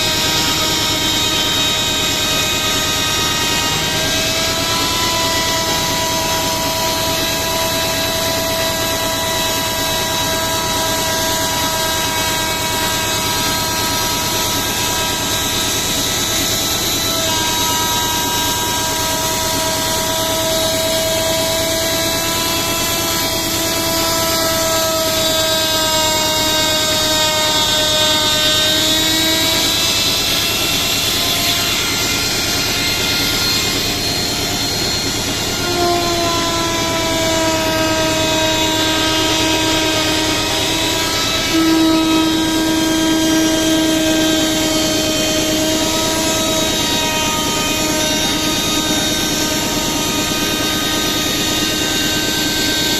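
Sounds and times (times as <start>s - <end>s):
power tool motor whine: 0.0s - 52.9s.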